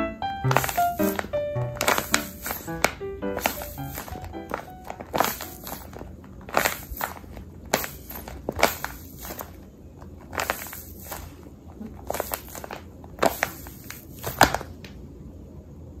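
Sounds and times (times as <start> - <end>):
paper toy crinkling when squeezed: 0.4 - 14.8.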